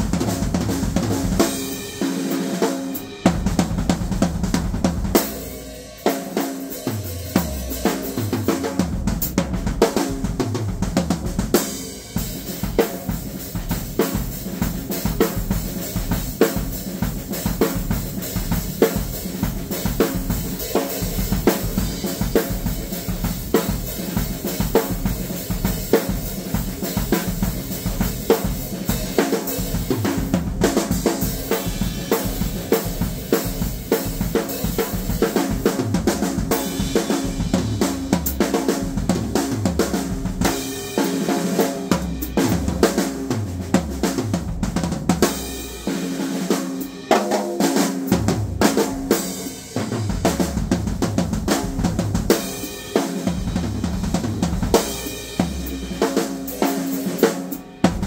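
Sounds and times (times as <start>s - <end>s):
drum kit beat: 0.0s - 58.0s.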